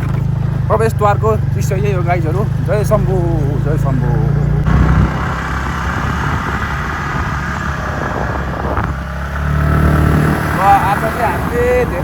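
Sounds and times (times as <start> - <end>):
vehicle engine hum: 0.0 - 12.0
wind and road noise: 0.0 - 12.0.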